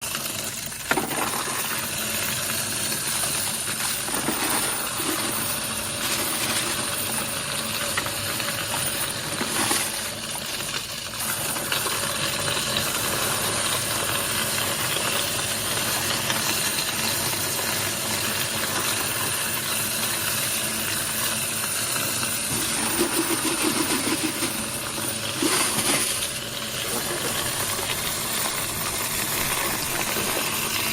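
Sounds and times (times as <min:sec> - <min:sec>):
coins clattering through sorting machine: 0:00.2 - 0:17.6, 0:18.8 - 0:30.9.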